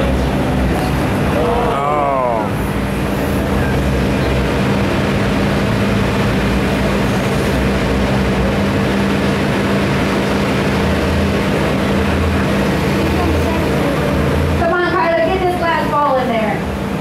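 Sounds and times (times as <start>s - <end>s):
excavator diesel engine drone: 0.0s - 17.0s.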